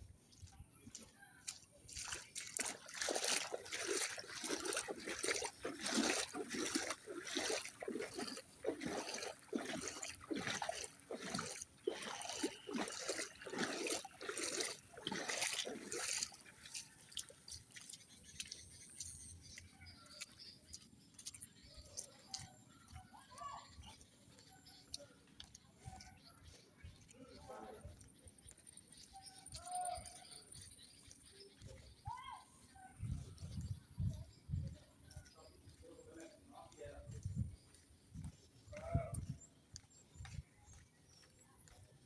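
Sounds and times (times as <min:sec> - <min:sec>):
footsteps splashing through water: 0:00.0 - 0:42.0.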